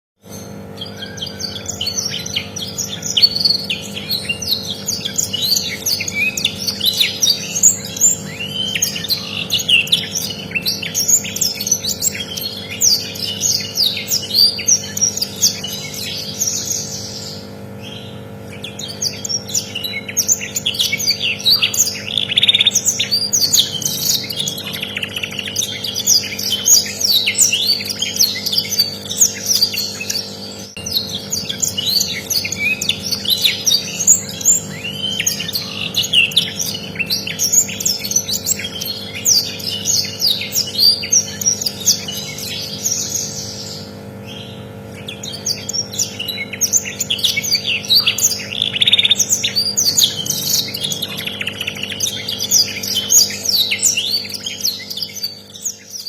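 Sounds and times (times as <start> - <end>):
canary singing trills: 0.2 - 56.0
faint hum: 0.2 - 56.0.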